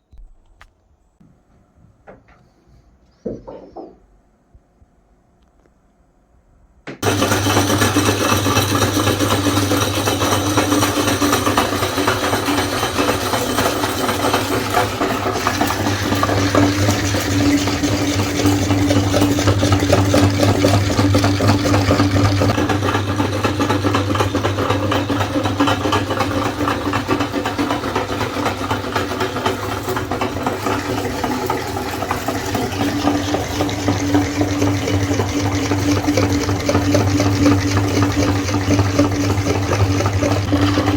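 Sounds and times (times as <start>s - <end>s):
electric meat grinder humming: 7.0s - 40.9s.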